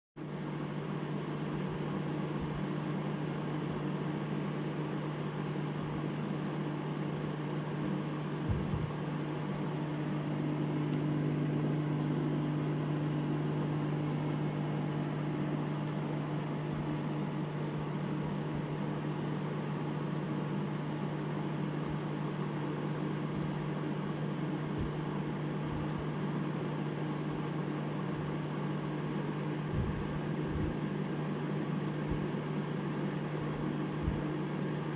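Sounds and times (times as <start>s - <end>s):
air pump drone: 0.2s - 34.9s.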